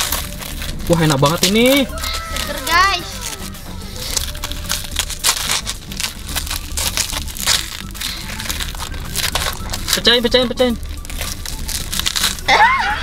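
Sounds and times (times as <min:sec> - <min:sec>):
spoons crunching wafer cones: 0:00.0 - 0:13.0.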